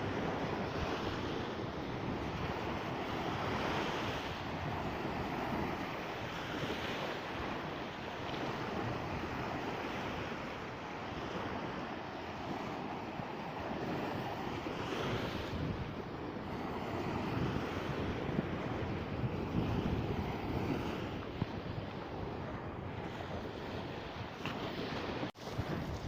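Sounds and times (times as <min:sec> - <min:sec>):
sea surf washing in: 0:00.0 - 0:26.0
wind rumbling on microphone: 0:00.0 - 0:26.0.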